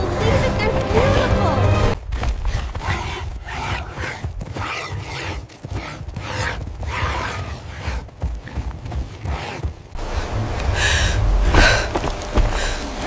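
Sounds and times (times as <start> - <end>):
running feet and hooves thudding: 1.9 - 13.0.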